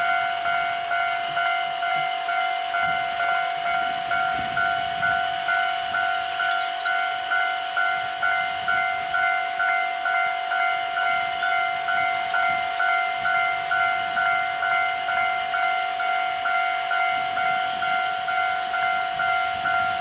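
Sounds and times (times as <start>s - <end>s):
level crossing alarm ringing: 0.0s - 20.0s.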